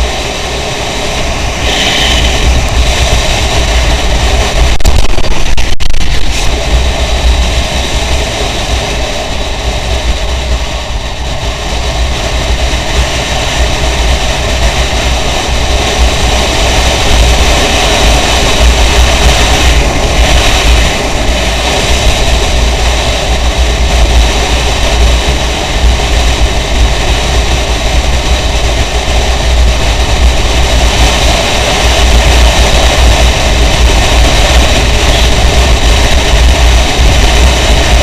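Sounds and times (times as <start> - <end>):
motorcycle engine running: 0.0 - 38.0
wind rushing on microphone: 0.0 - 38.0.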